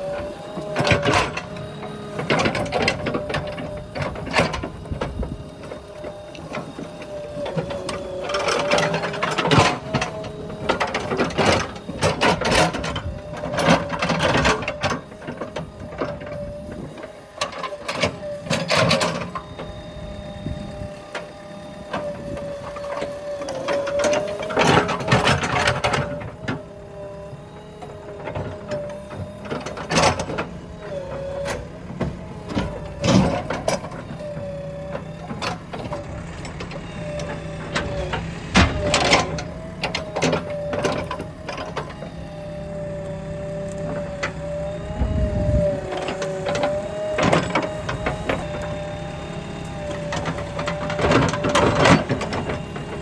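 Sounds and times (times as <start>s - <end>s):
digger clanking and knocking: 0.0s - 53.0s
digger engine whining: 0.0s - 53.0s.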